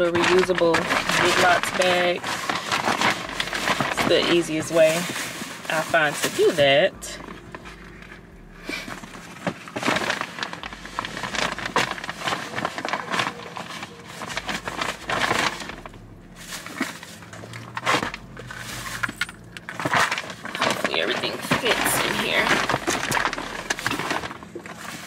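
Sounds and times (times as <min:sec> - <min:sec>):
rustling and crinkling of packing: 0:00.0 - 0:25.0.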